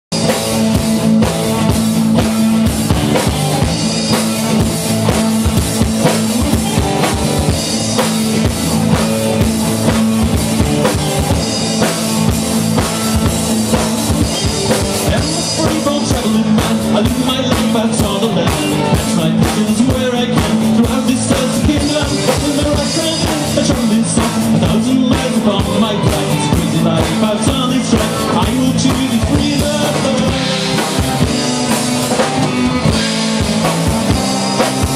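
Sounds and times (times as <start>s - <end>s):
acoustic and electric guitars: 0.1s - 34.9s
drum kit steady beat: 0.1s - 34.9s.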